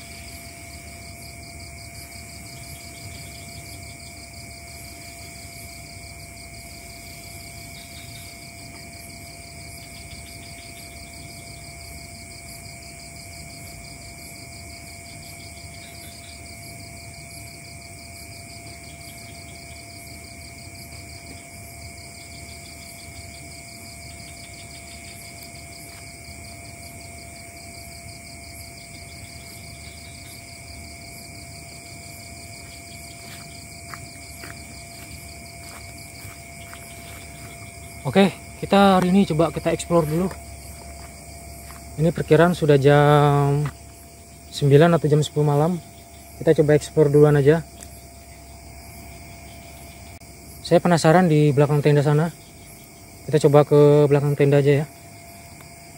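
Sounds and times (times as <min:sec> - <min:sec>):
crickets chirping: 0:00.0 - 0:55.9
insect pulsing trill: 0:00.0 - 0:55.9.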